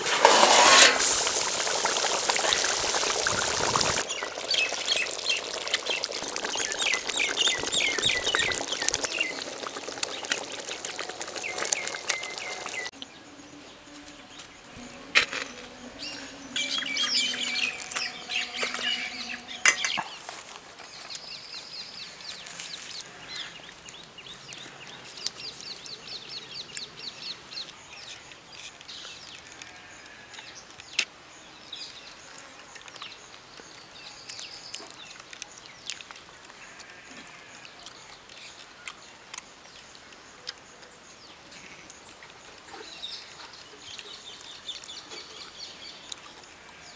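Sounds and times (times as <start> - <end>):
small birds chirping: 3.9 - 46.9.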